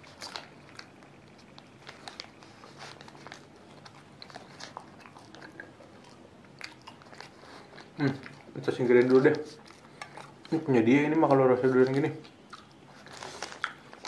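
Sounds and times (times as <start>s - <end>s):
crunchy pastry being chewed: 0.0s - 14.0s.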